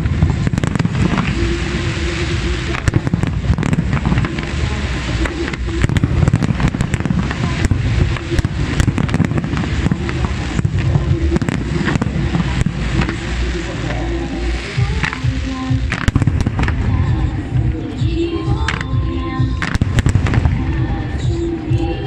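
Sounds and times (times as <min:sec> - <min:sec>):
fireworks bursting with bangs: 0:00.0 - 0:22.0
fireworks fountains rushing: 0:00.0 - 0:22.0.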